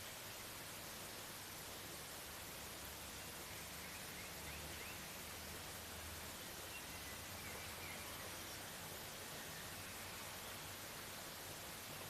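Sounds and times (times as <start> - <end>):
rain falling in forest: 0.0 - 12.0.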